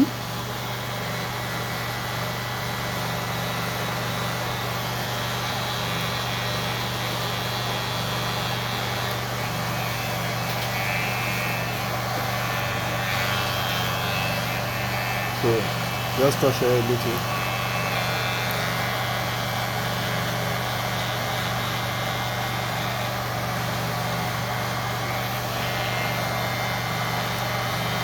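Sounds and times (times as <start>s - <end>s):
electric hair clipper humming: 0.0s - 28.0s.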